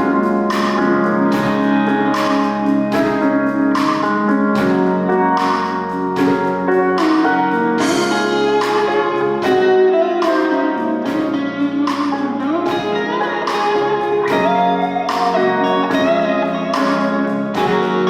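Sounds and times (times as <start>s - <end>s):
guitar strums: 0.0s - 18.0s
live band playing ballad: 0.0s - 18.0s.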